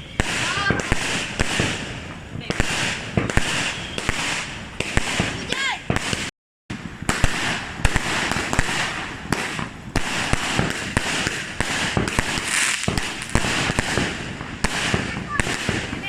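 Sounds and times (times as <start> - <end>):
small fireworks hissing and crackling: 0.0 - 16.0.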